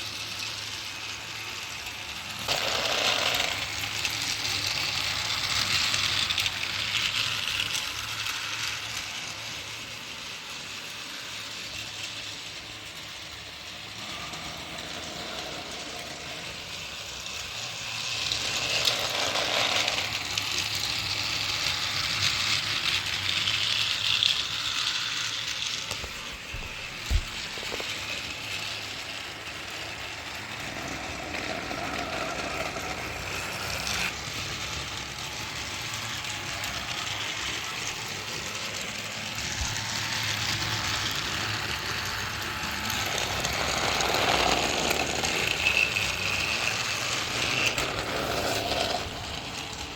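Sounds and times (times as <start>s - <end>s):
toy train cars rattling: 0.0s - 49.9s
toy train motor whirring: 0.0s - 49.9s.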